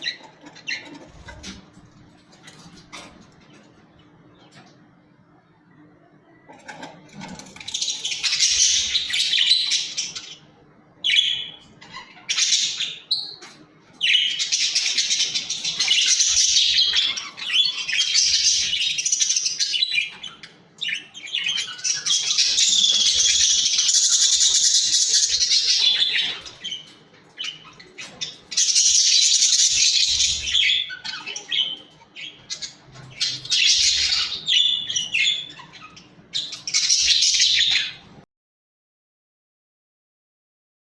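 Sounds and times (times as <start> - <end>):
budgies chattering and warbling: 0.0 - 38.2.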